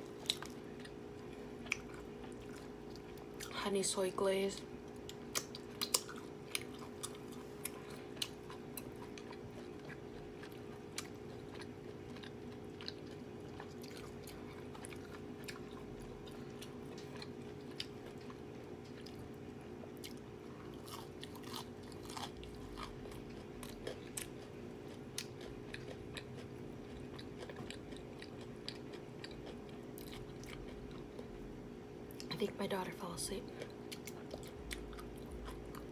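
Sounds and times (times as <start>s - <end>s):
person chewing food: 0.0s - 3.5s, 4.8s - 32.3s, 33.5s - 35.9s
steady hum: 0.0s - 35.9s.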